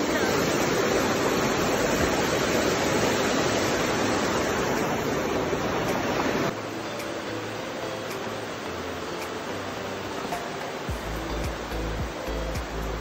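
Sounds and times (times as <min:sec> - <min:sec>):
water rushing over boulders: 0:00.0 - 0:13.0.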